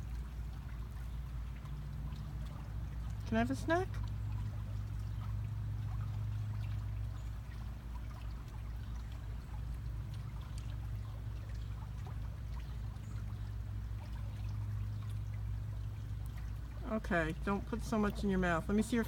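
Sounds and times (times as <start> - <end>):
constant low hum: 0.0 - 19.0
water trickling: 0.0 - 19.0.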